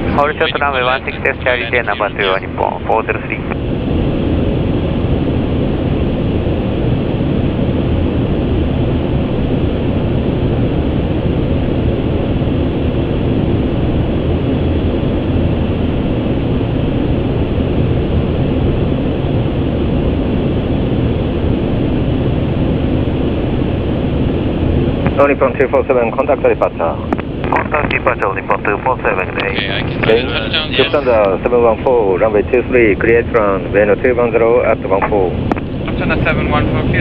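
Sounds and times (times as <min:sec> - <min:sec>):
cockpit airflow and engine noise: 0:00.0 - 0:37.0.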